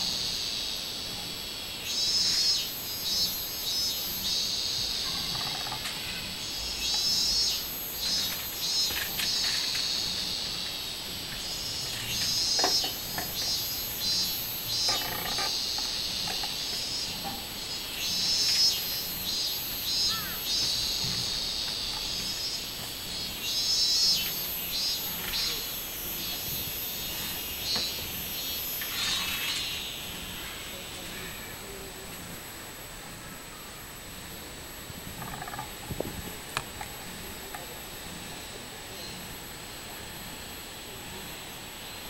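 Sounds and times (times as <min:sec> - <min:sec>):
cicadas singing: 0:00.0 - 0:42.0
steady high insect buzz: 0:00.0 - 0:42.0.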